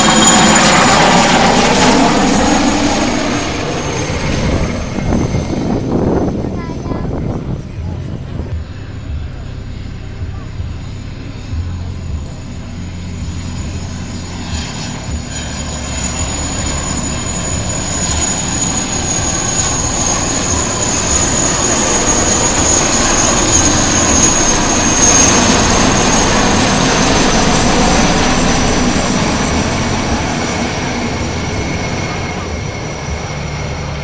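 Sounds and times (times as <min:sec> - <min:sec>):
helicopters flying over: 0:00.0 - 0:34.0.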